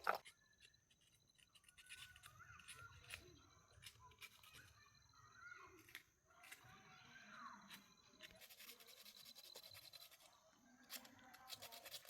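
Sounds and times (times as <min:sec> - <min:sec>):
faint rapid scratching: 0:00.0 - 0:12.0.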